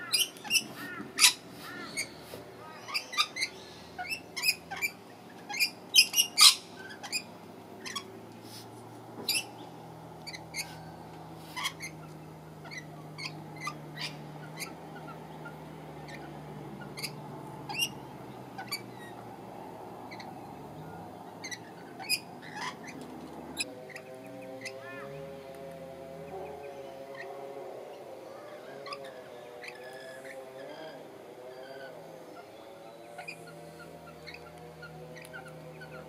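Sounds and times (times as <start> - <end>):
lorikeets chattering calls: 0.0 - 8.2, 9.3 - 19.3, 20.0 - 25.3, 26.2 - 36.0
steady low hum: 0.0 - 36.0.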